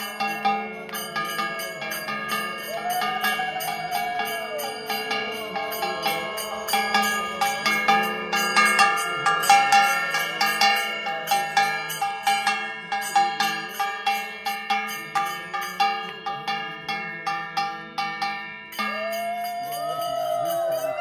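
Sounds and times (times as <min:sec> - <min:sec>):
metal temple bell struck: 0:00.0 - 0:21.0.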